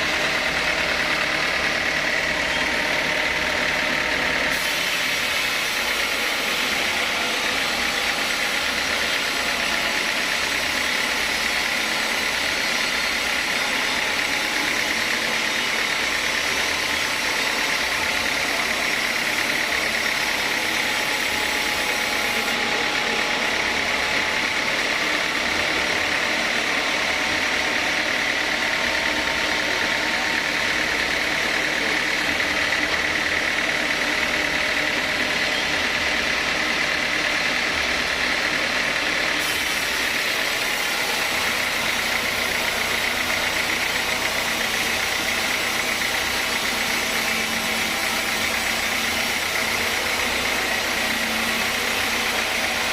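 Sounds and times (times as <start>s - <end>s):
sawmill machinery whining: 0.0s - 52.9s.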